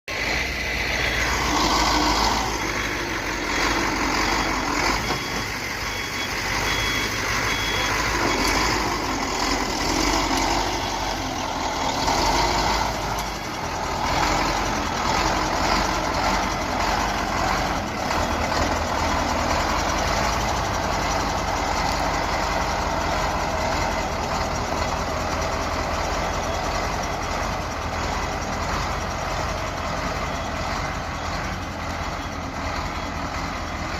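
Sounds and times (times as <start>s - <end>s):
reversing beeper: 0.1s - 33.8s
diesel truck engine revving: 0.1s - 33.9s.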